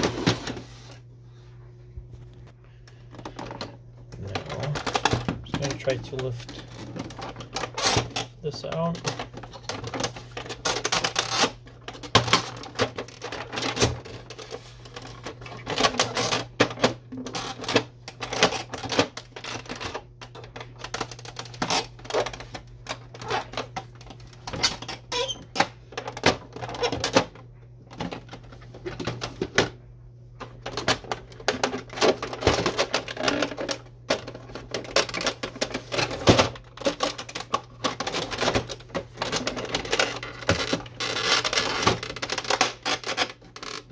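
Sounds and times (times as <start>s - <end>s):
plastic parts clicking and rattling: 2.9s - 43.9s.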